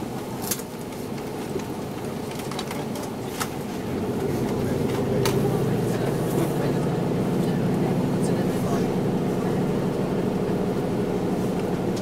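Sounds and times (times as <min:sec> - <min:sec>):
diesel railcar engine rumble: 0:00.0 - 0:12.0.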